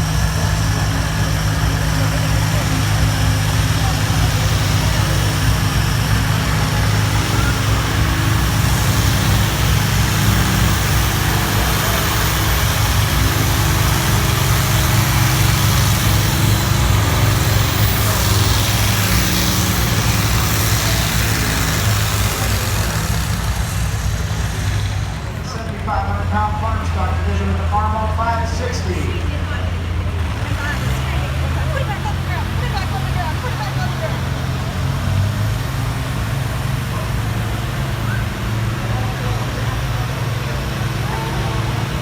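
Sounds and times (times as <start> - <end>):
tractor engine running: 0.0 - 42.0.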